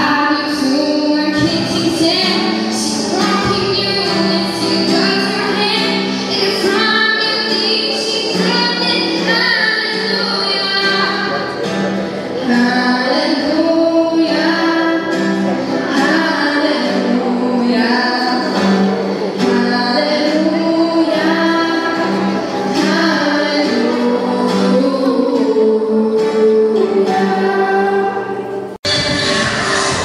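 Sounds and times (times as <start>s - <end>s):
acoustic guitar: 0.0s - 30.0s
girls singing into microphones: 0.0s - 30.0s.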